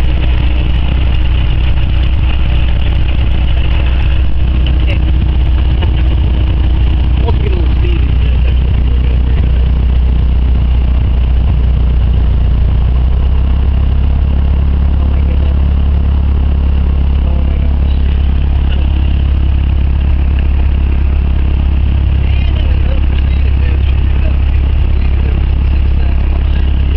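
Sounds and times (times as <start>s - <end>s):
aircraft engine and propeller drone: 0.0s - 26.9s.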